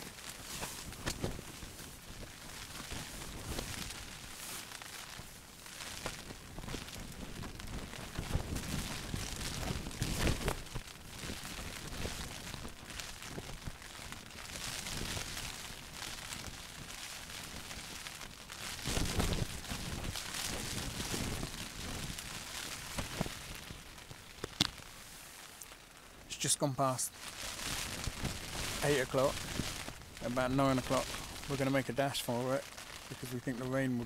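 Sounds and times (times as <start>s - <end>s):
wind gusts rumbling on microphone: 0.0s - 4.4s, 5.1s - 24.9s, 27.4s - 33.6s
wind and rain on a tent: 0.0s - 34.0s.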